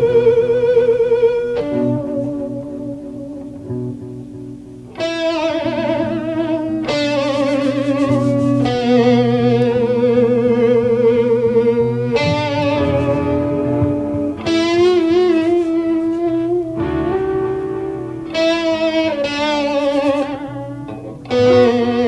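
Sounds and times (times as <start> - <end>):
electric guitar with vibrato: 0.0 - 22.0.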